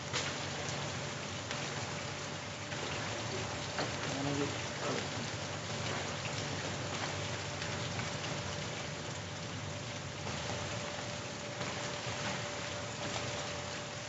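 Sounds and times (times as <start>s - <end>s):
faint steady hum: 0.0s - 14.0s
steady rain falling: 0.0s - 14.0s.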